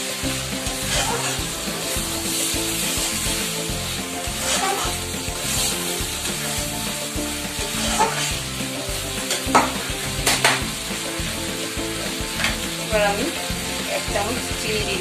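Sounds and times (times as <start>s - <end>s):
curry sizzling in a pan: 0.0s - 15.0s
spatula clacking on metal: 0.0s - 15.0s
spatula scraping a pan: 0.0s - 15.0s.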